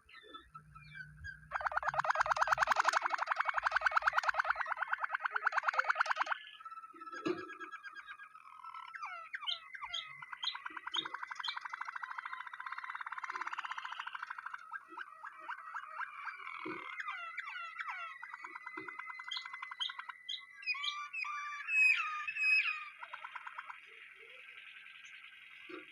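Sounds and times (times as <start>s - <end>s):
canary singing trills: 0.0s - 25.9s.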